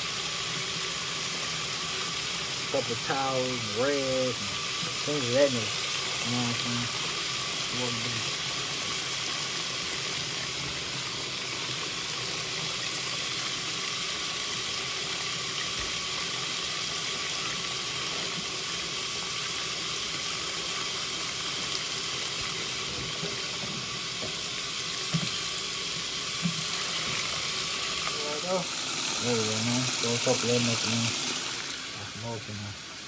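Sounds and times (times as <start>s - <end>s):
washing machine filling with water: 0.0s - 33.0s.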